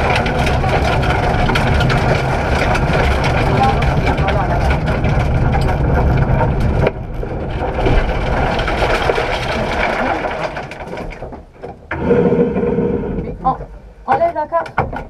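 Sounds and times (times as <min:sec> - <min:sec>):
dense crackling rattling noise: 0:00.0 - 0:15.0.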